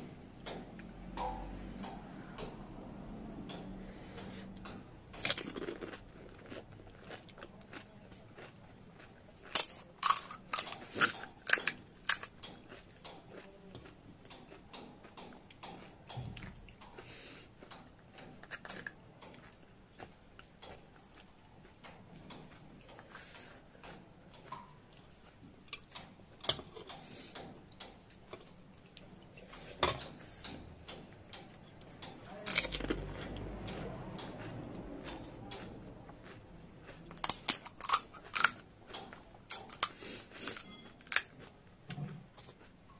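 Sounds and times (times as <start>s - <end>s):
quiet chewing: 0.0s - 42.9s.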